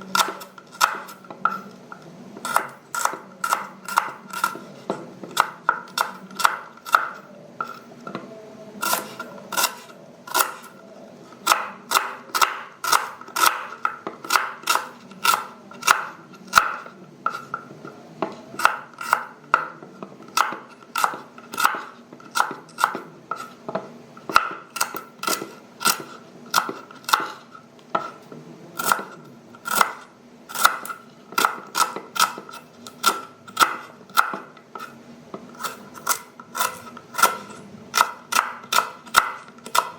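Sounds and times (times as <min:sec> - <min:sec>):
knife chopping onion on board: 0:00.0 - 0:39.9.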